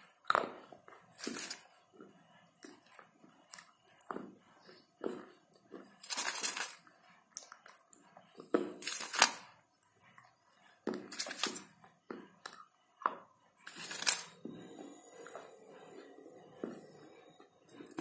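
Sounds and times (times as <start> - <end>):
crunching while chewing clay: 0.0 - 18.0.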